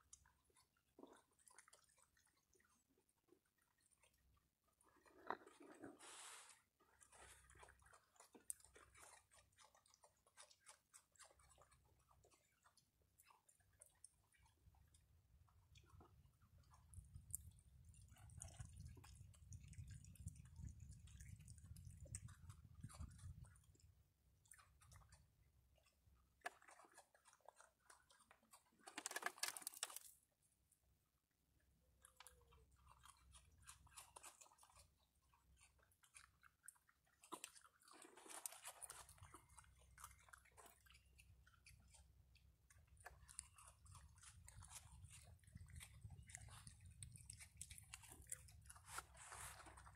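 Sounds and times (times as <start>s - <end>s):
raccoons chewing food: 0.0s - 30.8s, 31.4s - 49.9s.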